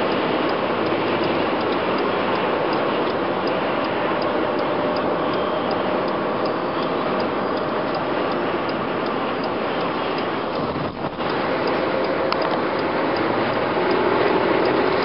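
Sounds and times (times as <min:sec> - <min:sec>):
light regular ticking: 0:00.0 - 0:15.0
road and wind noise in car: 0:00.0 - 0:15.0.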